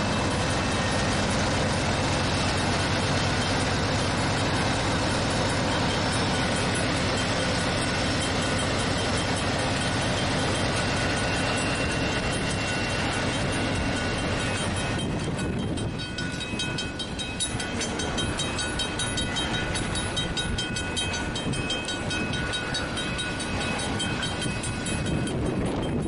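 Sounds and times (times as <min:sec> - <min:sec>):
freight train rumbling past: 0:00.0 - 0:26.0
thin high tone: 0:00.0 - 0:26.0
train wheels clicking: 0:00.0 - 0:26.0.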